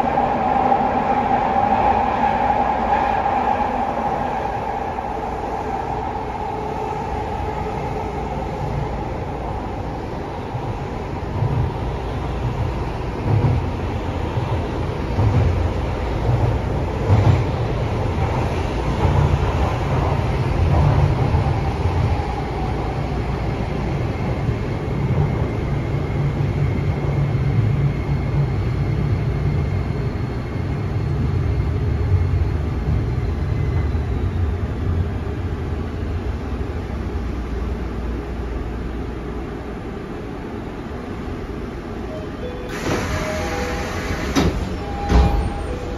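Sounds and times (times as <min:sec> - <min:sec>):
subway wheels rumbling on rail: 0:00.0 - 0:45.9.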